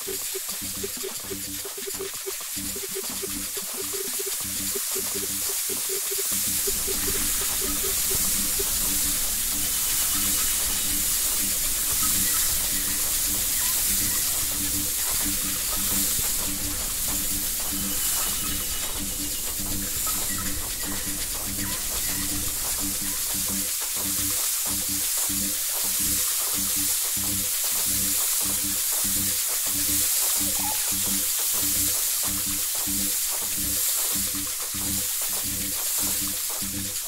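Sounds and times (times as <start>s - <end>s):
low musical notes: 0.0s - 37.0s
waterfall rushing: 0.0s - 37.0s.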